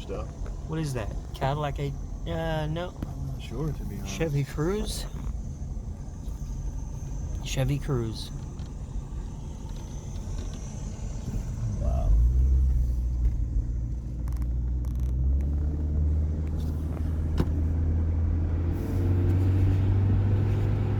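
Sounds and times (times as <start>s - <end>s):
car engine and road rumble: 0.0s - 20.9s.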